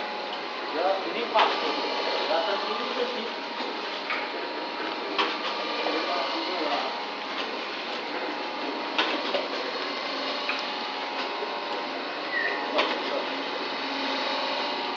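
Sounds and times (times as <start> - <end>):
packing machine running: 0.0 - 14.9.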